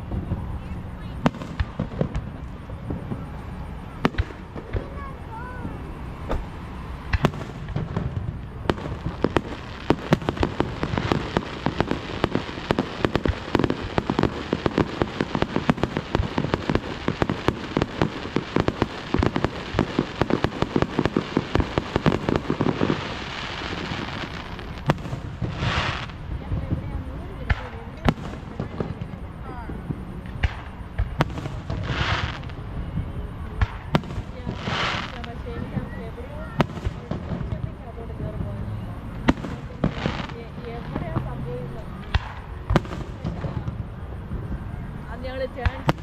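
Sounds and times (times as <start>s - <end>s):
firework bangs: 0.0s - 46.0s
rapid firework crackle: 0.0s - 46.0s.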